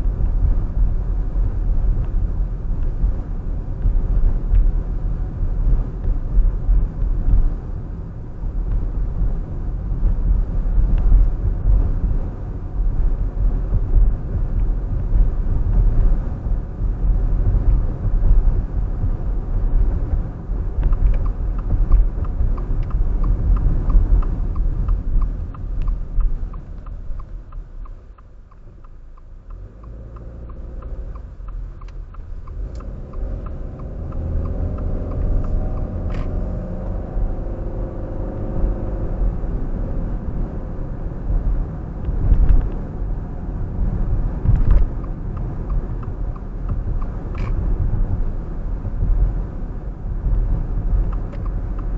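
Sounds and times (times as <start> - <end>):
car tyres and engine rumble: 0.0 - 51.9
turn signal ticking: 0.0 - 51.9.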